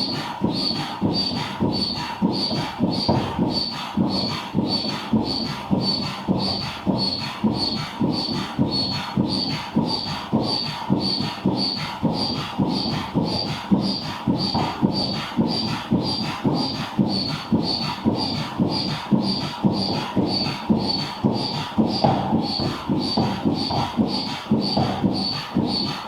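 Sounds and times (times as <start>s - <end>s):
manual air pump strokes whistling: 0.0s - 26.0s.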